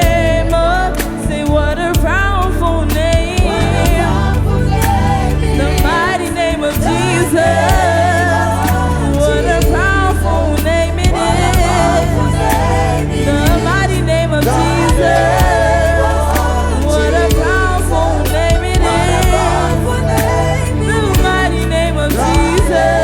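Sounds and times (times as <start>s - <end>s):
band playing: 0.0s - 23.0s
gospel singers: 0.0s - 23.0s
sustained bass notes: 0.0s - 23.0s.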